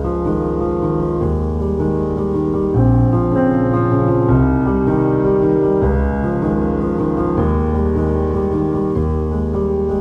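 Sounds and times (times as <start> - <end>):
instrumental music with sustained chords: 0.0 - 10.0.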